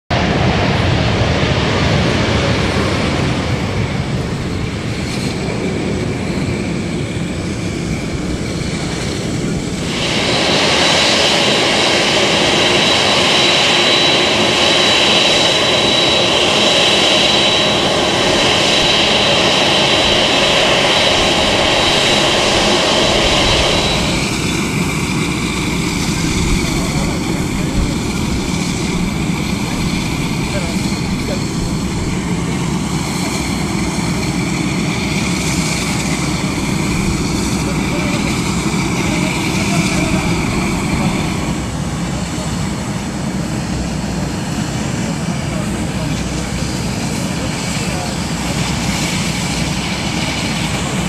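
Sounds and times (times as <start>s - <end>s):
high steady whine: 0.1s - 51.0s
jet engines rushing: 0.1s - 51.0s.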